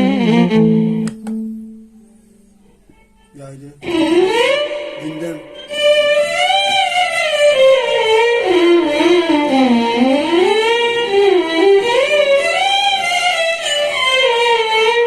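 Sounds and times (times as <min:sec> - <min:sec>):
violin melody with effects: 0:00.0 - 0:15.0.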